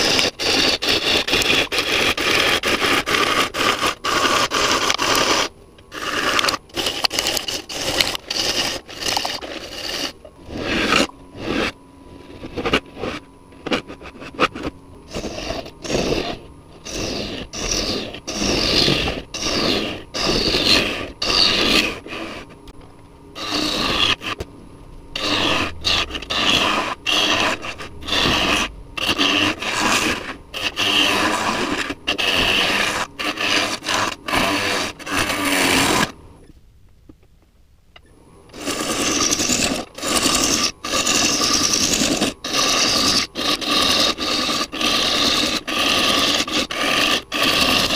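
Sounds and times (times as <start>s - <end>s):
gouge scraping wood on lathe: 0.0s - 22.6s, 23.4s - 24.4s, 25.1s - 36.2s, 38.5s - 47.9s.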